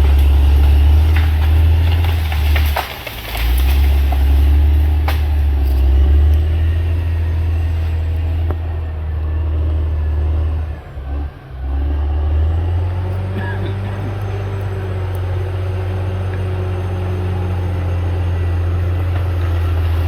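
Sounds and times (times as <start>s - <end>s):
bulldozer diesel engine rumbling: 0.0s - 20.0s.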